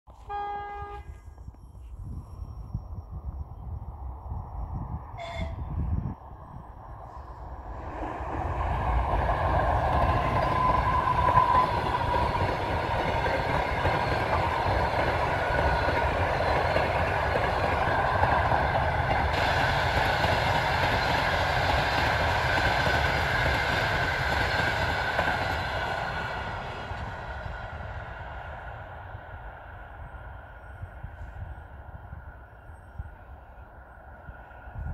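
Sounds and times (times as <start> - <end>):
high locomotive whine: 0.1 - 34.9
train wheels rumbling on rails: 3.8 - 34.9.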